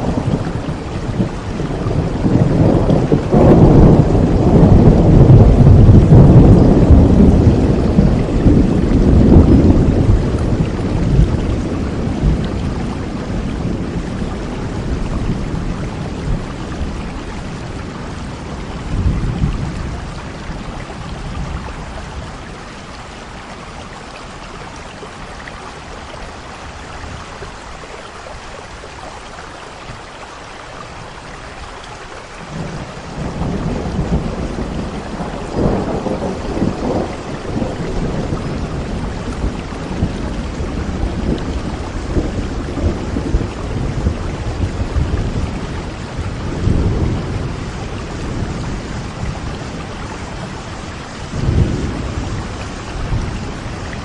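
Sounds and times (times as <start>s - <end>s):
rolling thunder: 0.0s - 23.0s, 32.4s - 54.0s
heavy rain: 0.0s - 54.0s.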